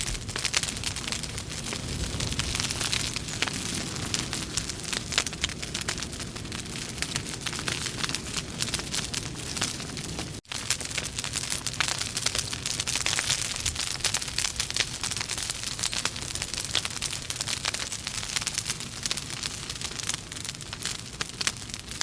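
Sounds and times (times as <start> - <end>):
burning logs crackling: 0.0 - 22.0
fire hissing: 0.0 - 22.0.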